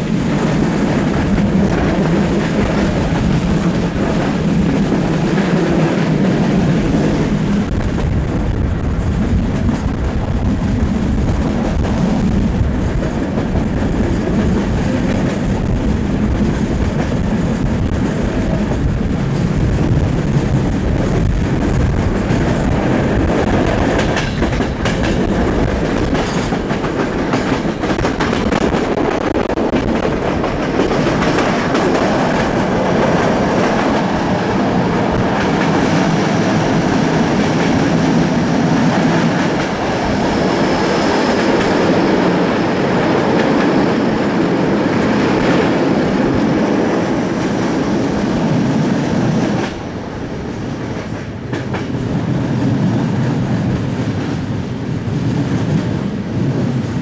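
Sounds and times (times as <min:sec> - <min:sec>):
clickety-clack of rail joints: 0:00.0 - 0:57.0
train wheels rumbling on rails: 0:00.0 - 0:57.0.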